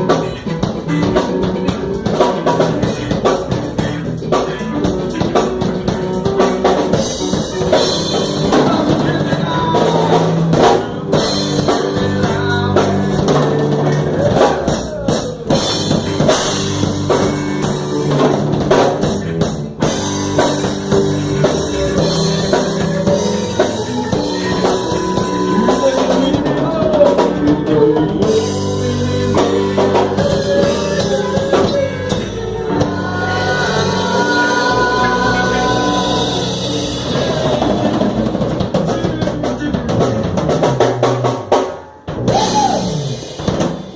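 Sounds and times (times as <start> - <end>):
drum kit beat with rimshots: 0.0 - 43.9
live band playing a hymn: 0.0 - 43.9.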